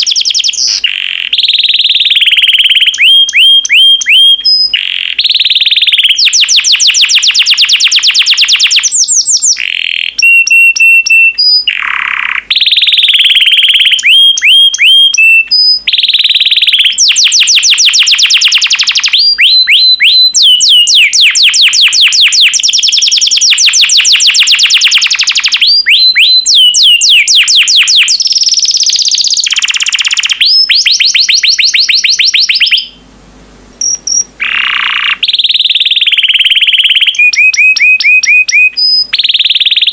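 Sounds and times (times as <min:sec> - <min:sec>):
canary singing trills: 0:00.0 - 0:33.1, 0:33.8 - 0:39.9.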